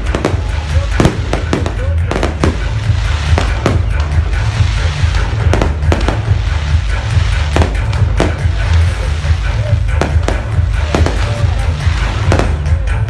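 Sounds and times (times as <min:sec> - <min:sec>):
fireworks bangs: 0:00.0 - 0:13.0
loud music with heavy bass: 0:00.0 - 0:13.0.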